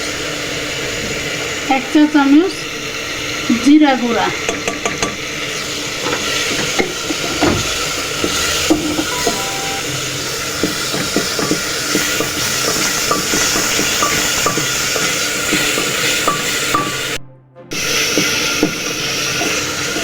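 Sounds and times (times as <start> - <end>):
masala sizzling in oil: 0.0 - 20.0.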